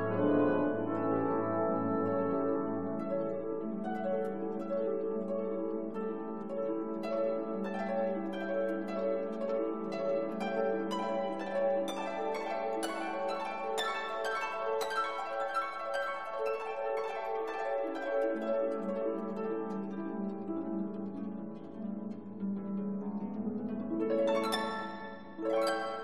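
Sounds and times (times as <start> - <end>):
gentle harp-like instrumental music: 0.0 - 26.0.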